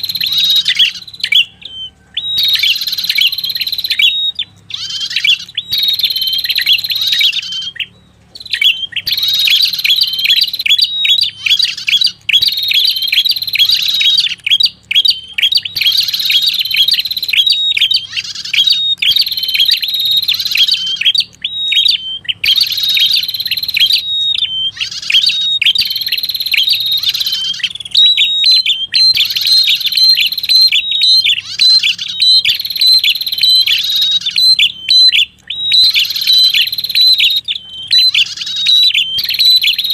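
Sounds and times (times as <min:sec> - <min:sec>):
warbler chirping trills: 0:00.0 - 0:39.9.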